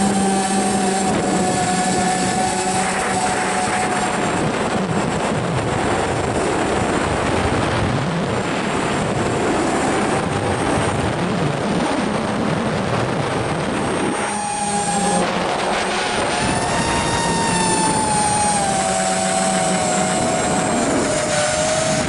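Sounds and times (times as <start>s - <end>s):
model aircraft motor hum: 0.0s - 22.0s
wind rush on microphone: 0.0s - 22.0s.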